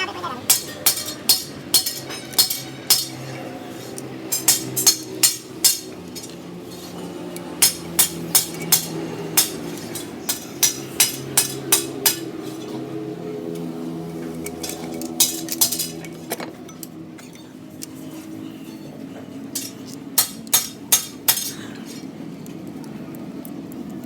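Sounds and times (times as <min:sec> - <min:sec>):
tools tapping metal engine parts: 0:00.4 - 0:12.9, 0:13.5 - 0:22.7.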